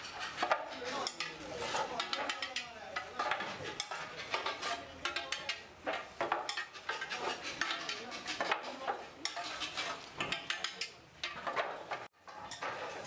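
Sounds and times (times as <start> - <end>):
clay roof tiles clinking: 0.0 - 13.0.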